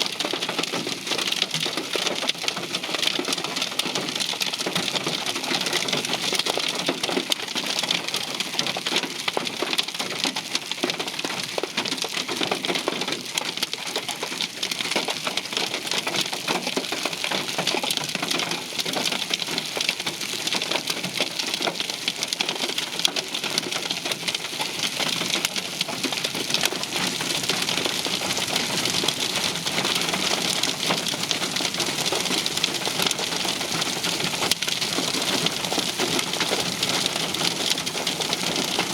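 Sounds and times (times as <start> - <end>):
hail and rain pelting a vehicle: 0.0 - 38.9.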